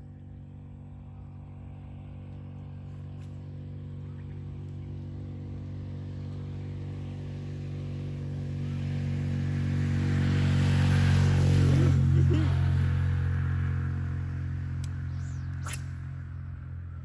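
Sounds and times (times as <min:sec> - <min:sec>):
motor engine passing by: 0:00.0 - 0:17.0.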